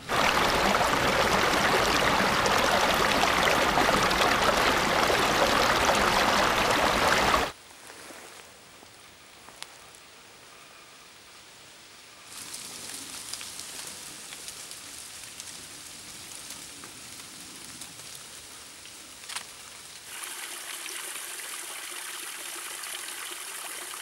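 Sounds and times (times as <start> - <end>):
running water hissing: 0.0 - 7.6, 12.2 - 24.0.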